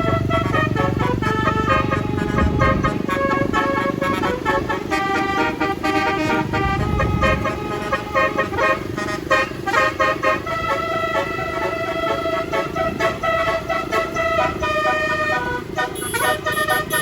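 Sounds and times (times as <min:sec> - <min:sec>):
bus engine rumble: 0:00.0 - 0:17.0
multi-tone bus horn melody: 0:00.0 - 0:17.0.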